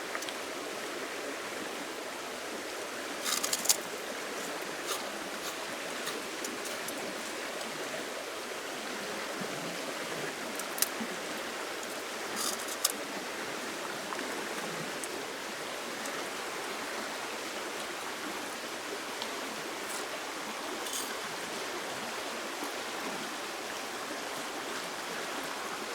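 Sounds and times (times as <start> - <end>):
stream water flowing: 0.0 - 25.9.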